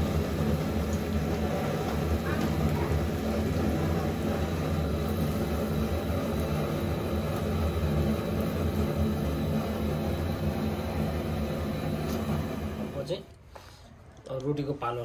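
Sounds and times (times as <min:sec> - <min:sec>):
oil sizzling while frying: 0:00.0 - 0:13.1.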